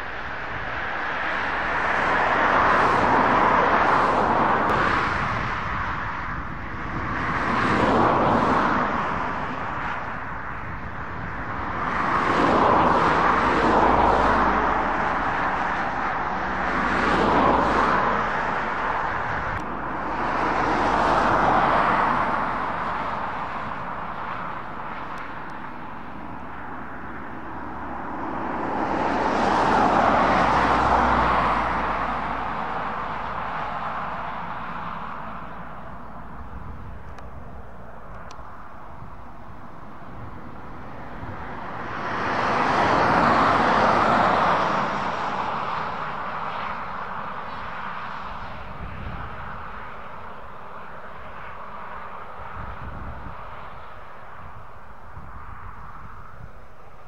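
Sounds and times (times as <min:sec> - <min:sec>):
low engine hum: 0:00.0 - 0:57.0
passing motor vehicle: 0:00.0 - 0:57.0.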